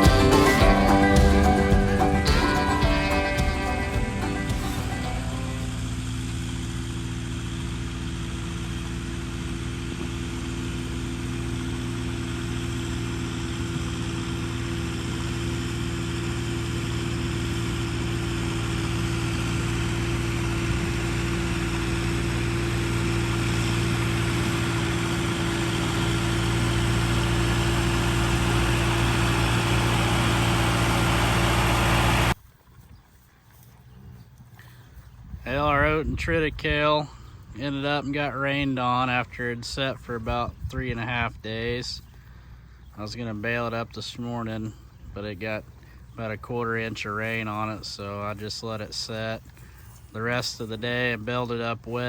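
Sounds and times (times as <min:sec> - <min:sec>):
tractor engine running: 0:00.0 - 0:33.6, 0:34.3 - 0:52.0.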